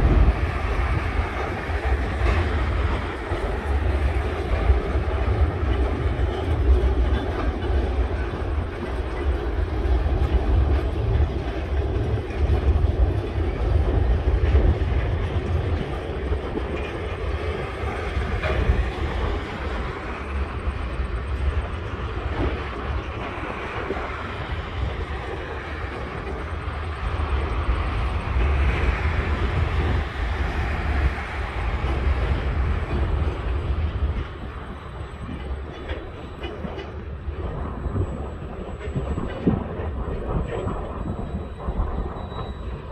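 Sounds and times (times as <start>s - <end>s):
train wheels rumbling on rails: 0.0s - 42.9s
wheels clacking: 0.0s - 42.9s.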